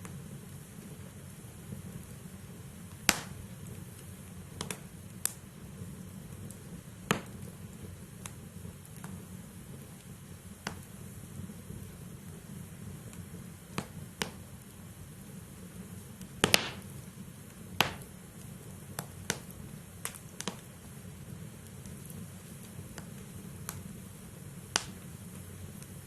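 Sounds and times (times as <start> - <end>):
fire crackling and popping: 0.0 - 26.0
logs burning in fireplace: 0.0 - 26.0.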